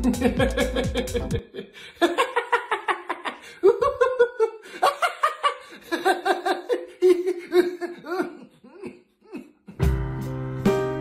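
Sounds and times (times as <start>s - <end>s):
man laughing hard: 0.0s - 10.0s.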